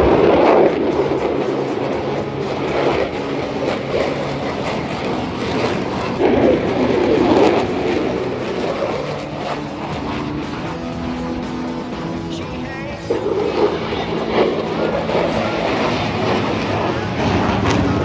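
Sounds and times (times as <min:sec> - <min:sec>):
jet aircraft passing: 0:00.0 - 0:18.0.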